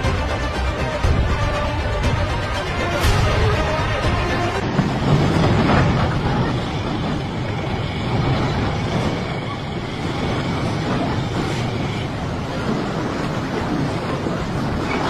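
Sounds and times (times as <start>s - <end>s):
river current roaring: 0.0s - 15.0s.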